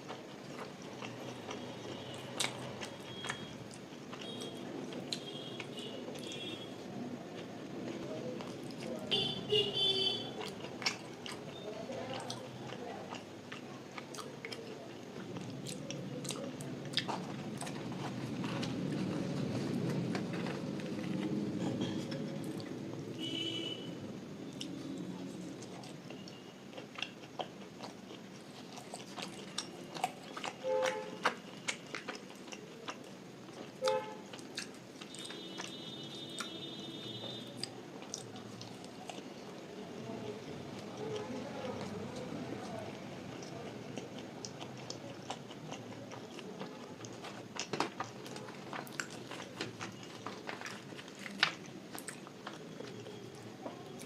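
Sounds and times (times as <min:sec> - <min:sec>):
chewing with wet mouth clicks: 0:00.0 - 0:06.6, 0:07.3 - 0:09.1, 0:10.1 - 0:23.2, 0:24.5 - 0:39.7, 0:40.3 - 0:54.0
low background hum: 0:00.0 - 0:54.0.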